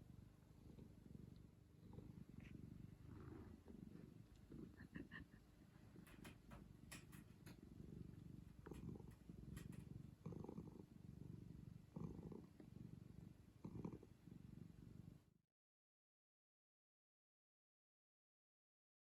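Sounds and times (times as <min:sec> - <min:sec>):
cat purring softly: 0:00.0 - 0:15.4.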